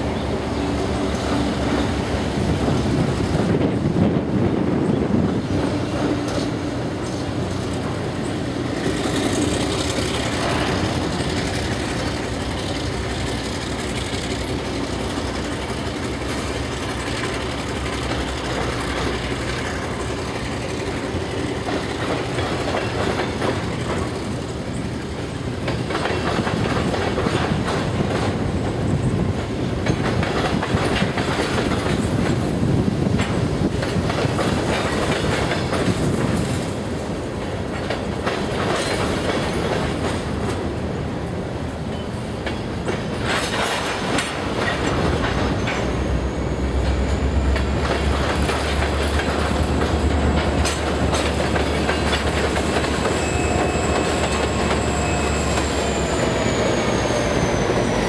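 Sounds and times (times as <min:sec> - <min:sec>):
diesel locomotive running: 0:00.0 - 0:58.0
train wheels clacking on rail joints: 0:00.0 - 0:58.0.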